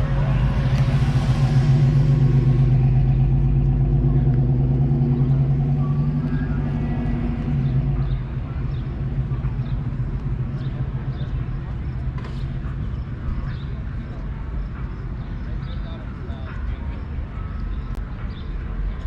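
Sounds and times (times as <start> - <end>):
car engine running: 0.0 - 15.3.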